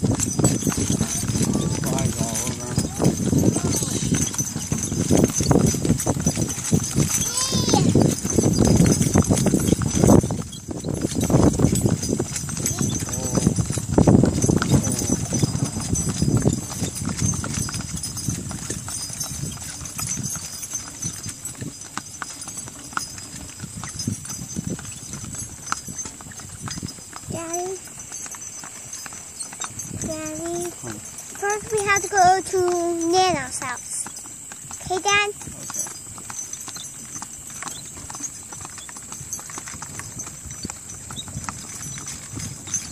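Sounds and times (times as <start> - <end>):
hooves clip-clopping on asphalt: 0.0 - 42.9.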